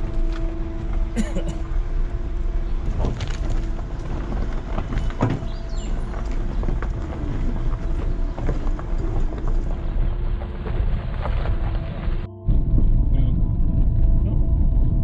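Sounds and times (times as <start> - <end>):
knocks and rattles: 0.0 - 13.5
vehicle engine running: 0.0 - 15.0
wind on microphone: 1.8 - 15.0.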